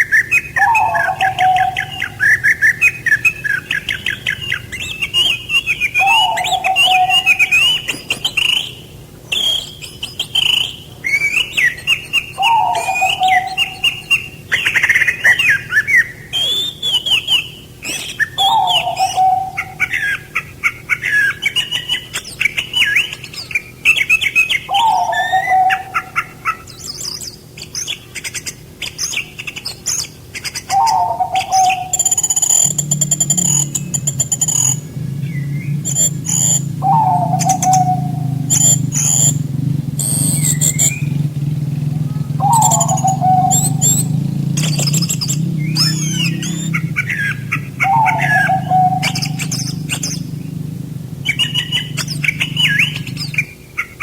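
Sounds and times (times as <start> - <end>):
bird falling call: 0.0 - 54.0
songbirds chirping and trilling: 0.0 - 54.0.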